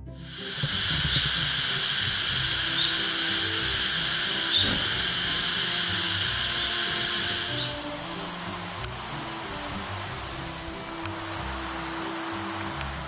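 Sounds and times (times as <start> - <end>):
soft background music: 0.0 - 13.0
cicadas buzzing: 0.2 - 13.0.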